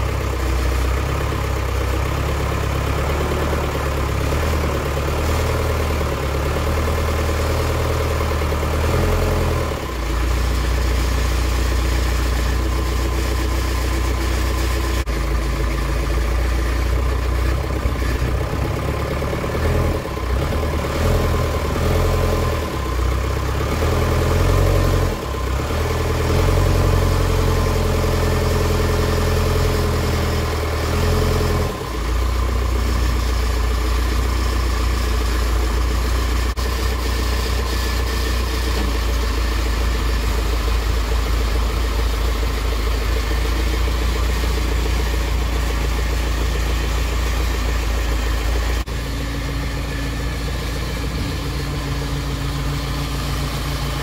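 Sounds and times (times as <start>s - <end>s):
loader engine idling: 0.0s - 54.0s.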